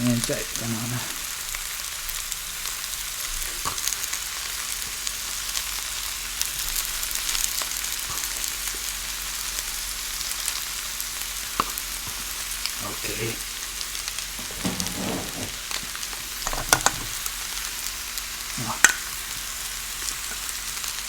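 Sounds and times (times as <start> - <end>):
sizzling hiss: 0.0 - 21.0.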